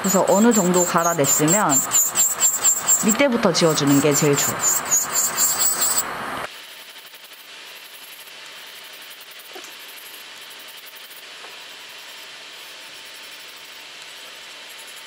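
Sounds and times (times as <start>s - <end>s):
electric nail drill grinding: 0.0s - 15.0s.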